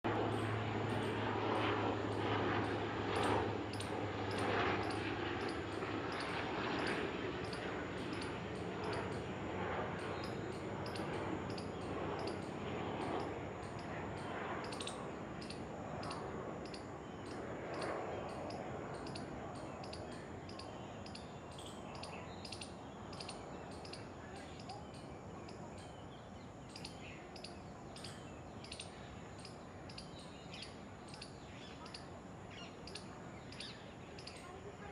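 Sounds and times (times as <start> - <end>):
low background murmur: 0.1 - 34.9
small birds chirping: 0.2 - 34.9.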